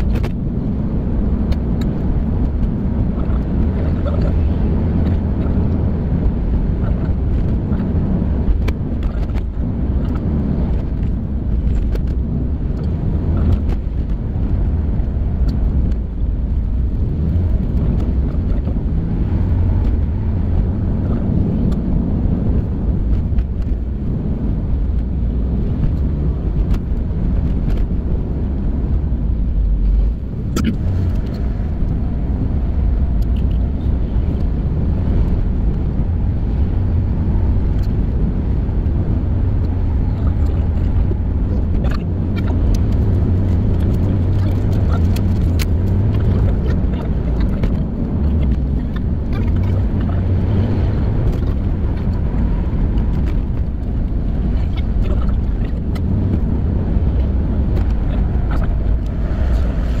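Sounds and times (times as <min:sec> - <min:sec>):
car cabin rumble on highway: 0:00.0 - 1:00.0.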